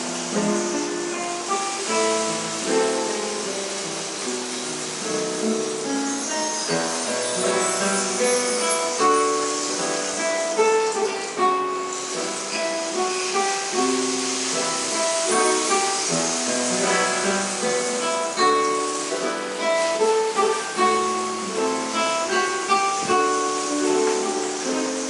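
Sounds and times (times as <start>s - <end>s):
acoustic guitars playing classical: 0.0s - 25.0s.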